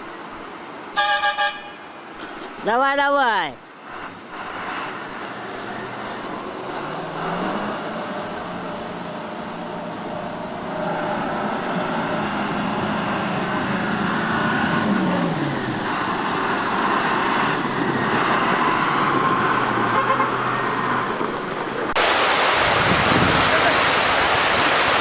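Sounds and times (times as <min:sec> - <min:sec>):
heavy truck engine under load: 0:03.7 - 0:25.0.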